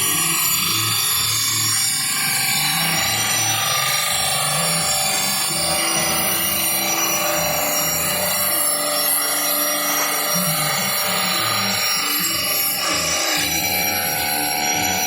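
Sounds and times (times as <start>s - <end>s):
power tool grinding steel blade: 0.0s - 15.0s.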